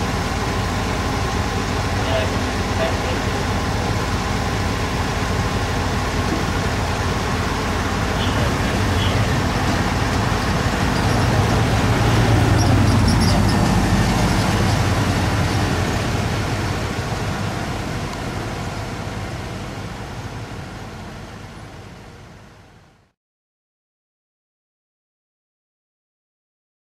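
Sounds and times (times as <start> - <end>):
vehicle engine pulling away: 0.0 - 23.0.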